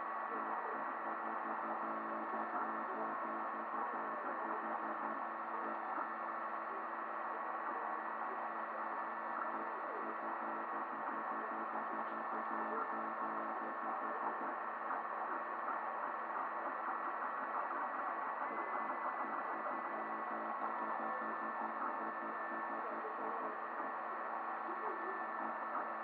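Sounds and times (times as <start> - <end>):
printer fan and motors humming: 0.0 - 26.0.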